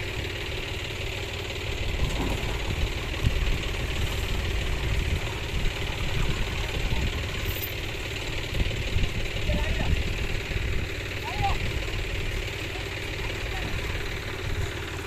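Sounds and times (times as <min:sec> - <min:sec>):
tractor diesel engine rumbling: 0:00.0 - 0:15.0.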